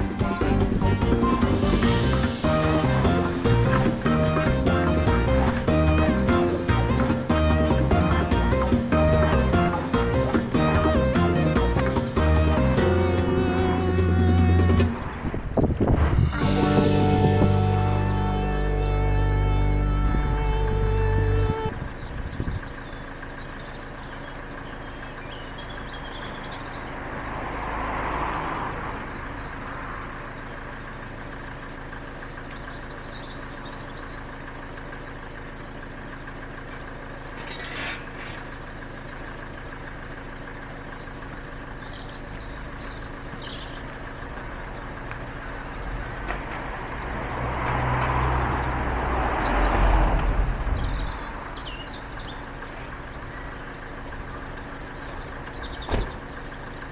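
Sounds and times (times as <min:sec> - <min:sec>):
birds chirping: 0:00.0 - 0:56.9
road traffic passing: 0:00.0 - 0:56.9.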